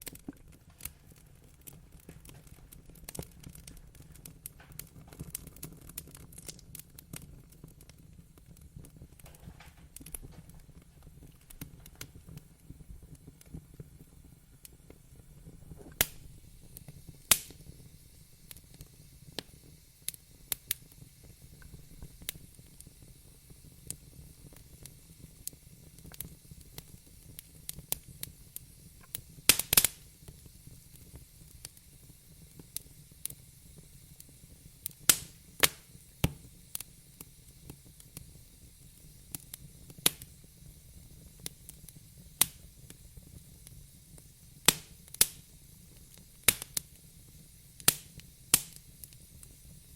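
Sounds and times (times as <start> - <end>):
low rumble of flames: 0.0 - 49.9
wood fire crackling: 0.0 - 49.9.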